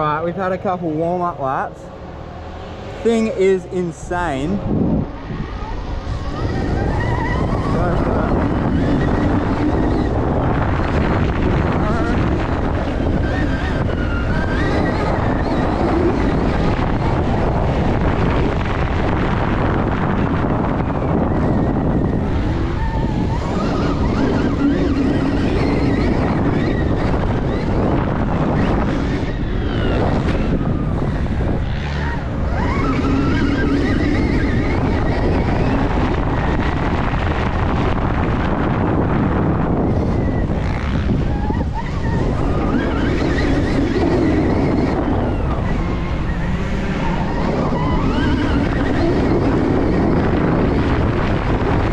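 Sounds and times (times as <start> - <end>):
wind rush on microphone: 0.0 - 51.9.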